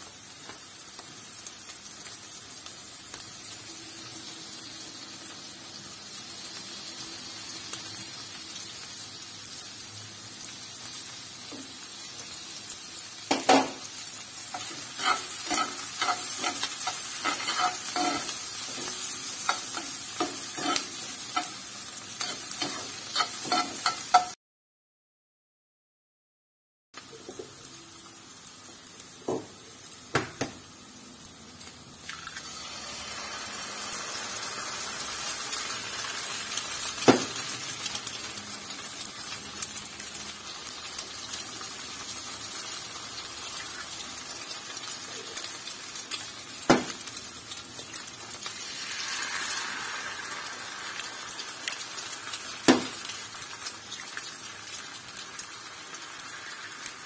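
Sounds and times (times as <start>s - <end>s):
eggs sizzling in a pan: 0.0s - 24.4s, 27.0s - 57.0s.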